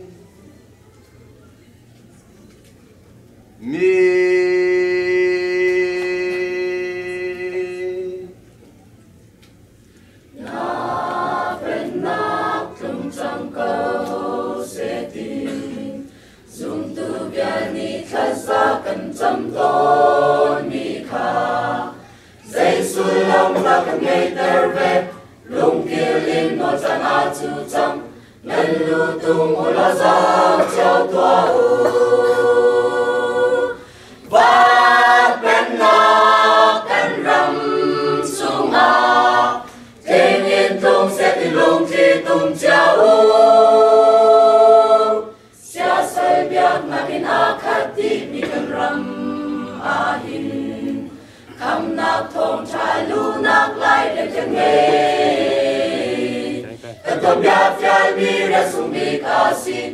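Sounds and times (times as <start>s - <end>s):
mixed choir singing unaccompanied: 3.6s - 8.4s, 10.3s - 59.9s.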